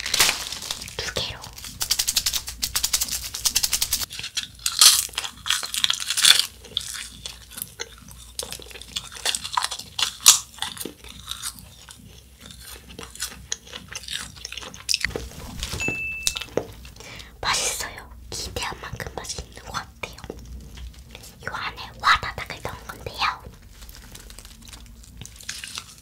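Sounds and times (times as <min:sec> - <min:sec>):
crunching and chewing candy: 0:00.0 - 0:26.0.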